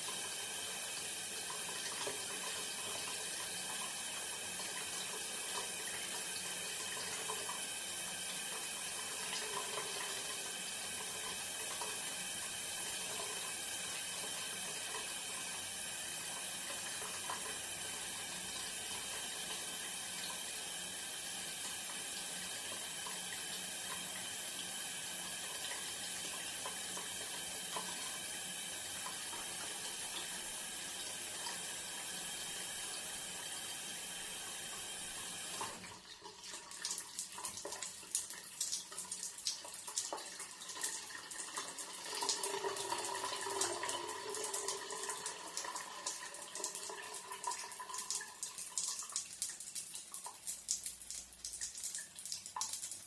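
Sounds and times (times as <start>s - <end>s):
shower spraying water: 0.0s - 53.0s.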